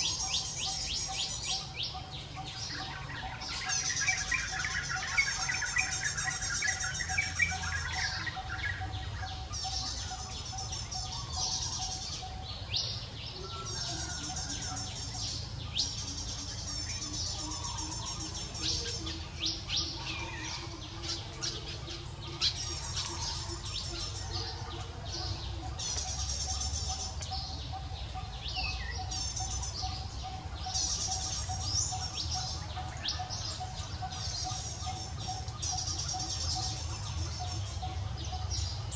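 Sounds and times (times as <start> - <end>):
birds trilling: 0.0 - 38.9.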